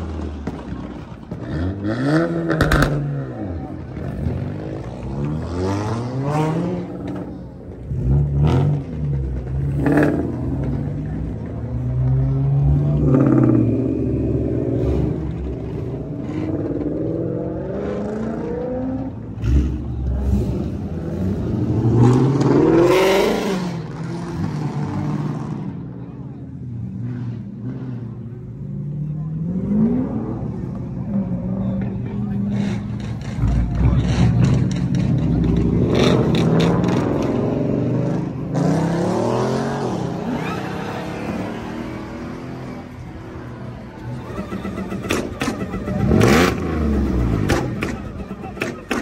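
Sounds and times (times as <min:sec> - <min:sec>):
sports car engines revving: 0:00.0 - 0:49.0.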